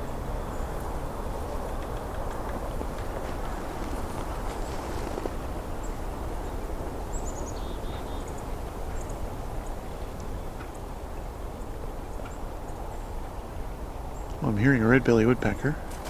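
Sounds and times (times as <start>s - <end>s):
low rushing background noise: 0.0s - 16.0s
wild birds calling: 0.0s - 16.0s.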